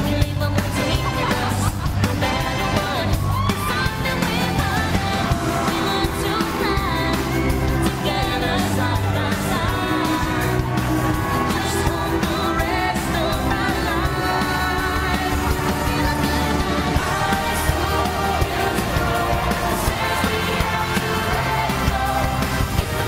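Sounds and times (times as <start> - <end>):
held bass notes: 0.0 - 23.0
pop song with vocals: 0.0 - 23.0.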